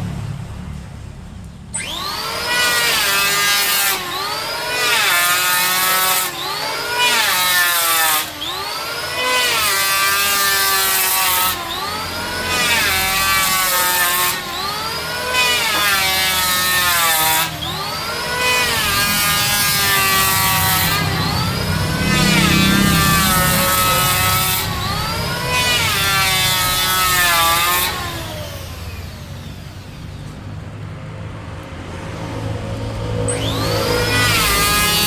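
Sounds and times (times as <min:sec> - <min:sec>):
power tool cutting wood: 0:01.7 - 0:30.6, 0:31.8 - 0:35.0
power tool winding down: 0:01.7 - 0:30.6, 0:33.2 - 0:35.0.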